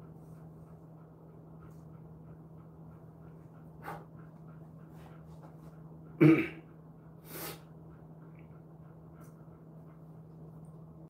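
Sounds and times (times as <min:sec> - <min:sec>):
dog huffing breath: 0:00.0 - 0:10.2
steady low hum: 0:00.0 - 0:11.0.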